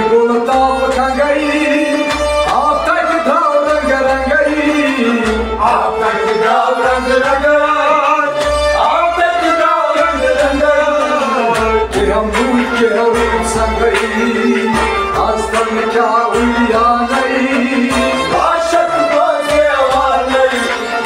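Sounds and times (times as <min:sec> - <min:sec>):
bowed sarangi melody: 0:00.0 - 0:21.0
hand drums: 0:00.0 - 0:21.0
harmonium: 0:00.0 - 0:21.0.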